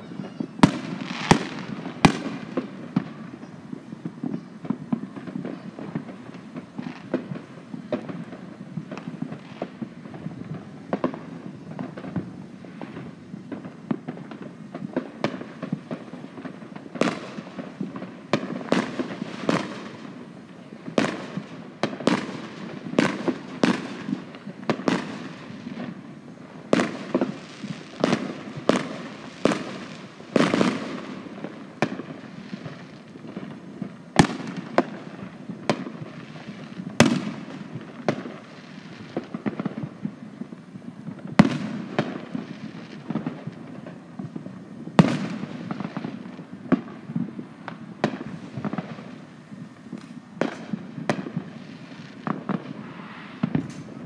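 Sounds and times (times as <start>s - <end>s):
fireworks bangs and pops: 0.0s - 54.0s
sharp firework cracks: 0.0s - 54.0s.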